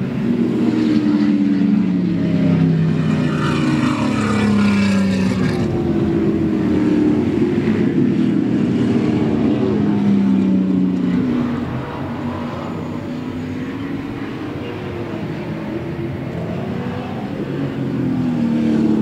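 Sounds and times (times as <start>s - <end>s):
racing car engines running hard: 0.0s - 19.0s.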